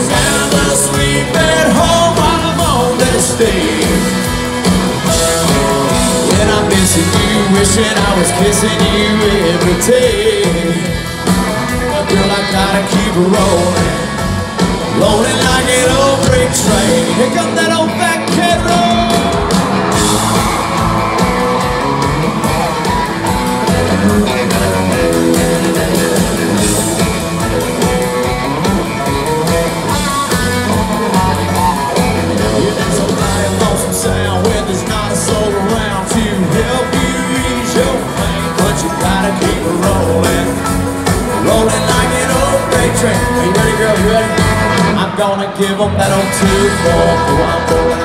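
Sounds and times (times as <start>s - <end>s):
live country band playing: 0.0s - 48.0s.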